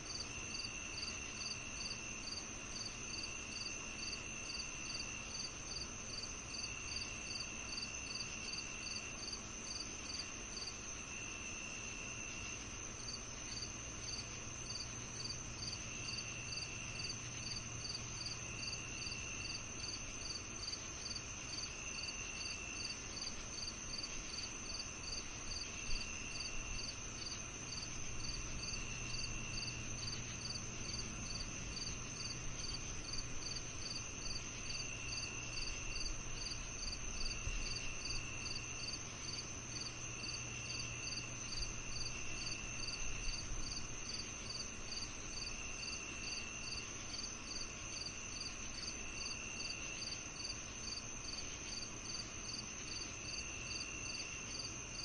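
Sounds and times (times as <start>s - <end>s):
cricket chirping: 0.0s - 55.0s
high insect trill: 0.0s - 55.0s
lower insect trill: 0.0s - 55.0s.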